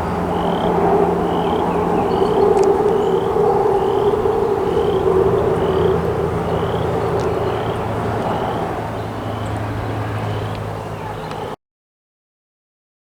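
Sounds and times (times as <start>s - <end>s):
frog chorus din: 0.0s - 11.5s.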